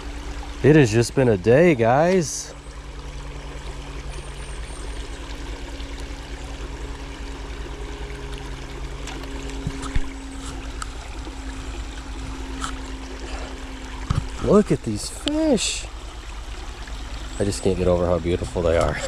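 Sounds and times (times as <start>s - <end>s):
creek trickling: 0.0s - 19.0s.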